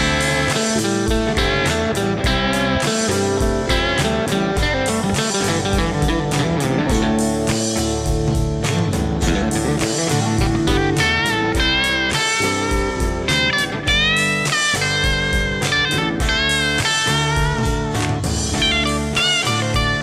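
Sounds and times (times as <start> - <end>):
electric guitar lead: 0.0 - 20.0
steady drum beat: 0.0 - 20.0.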